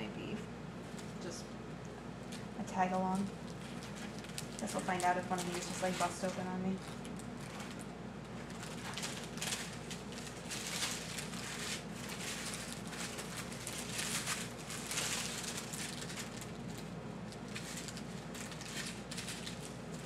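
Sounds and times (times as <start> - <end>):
plastic bags crinkling: 2.3 - 20.0.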